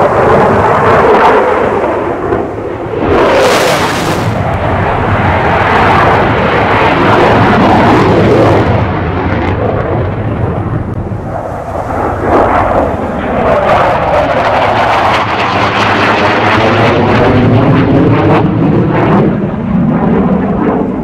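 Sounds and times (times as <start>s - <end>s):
fighter jet engine roar: 0.0s - 21.0s.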